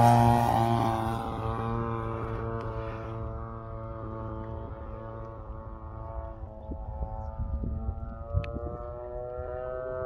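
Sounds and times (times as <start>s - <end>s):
model airplane engine: 0.0s - 10.0s
wind rumble on microphone: 0.0s - 10.0s.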